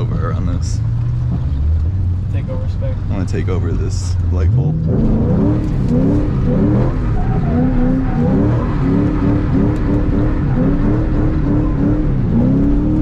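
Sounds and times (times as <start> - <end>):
car engine revving up and down: 0.0 - 13.0.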